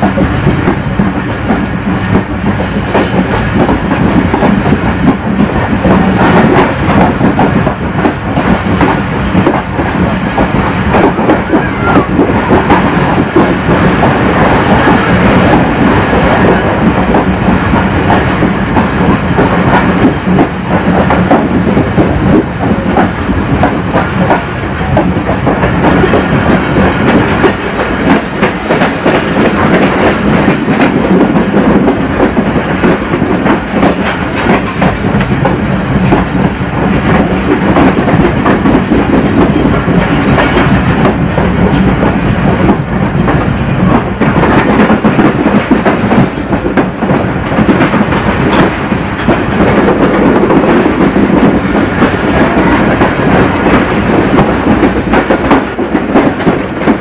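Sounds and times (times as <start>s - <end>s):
clatter over rail joints: 0.0s - 57.0s
train wheels rumbling on rails: 0.0s - 57.0s.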